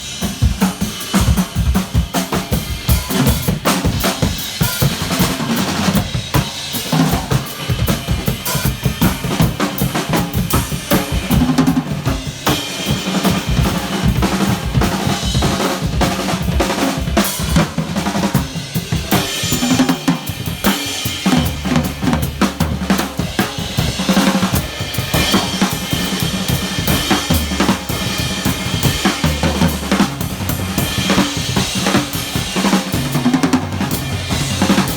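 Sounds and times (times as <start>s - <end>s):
cymbals: 0.0s - 34.9s
fast drum kit playing: 0.0s - 34.9s.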